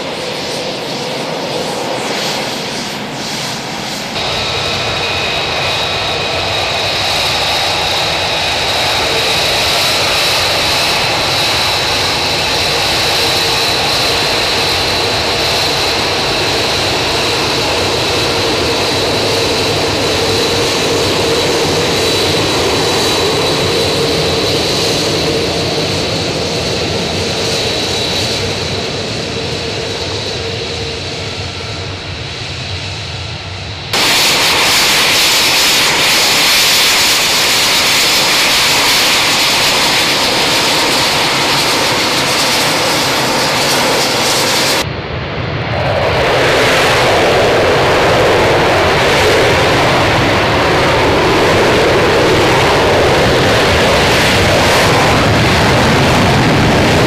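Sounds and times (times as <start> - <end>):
high jet whine: 0.0 - 57.0
jet engine roar: 0.0 - 57.0.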